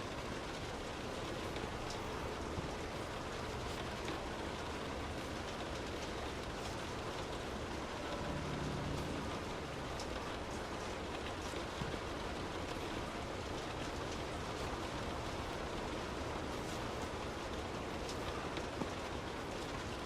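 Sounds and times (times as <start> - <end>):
raindrops ticking: 0.0 - 20.0
steady rain hiss: 0.0 - 20.0.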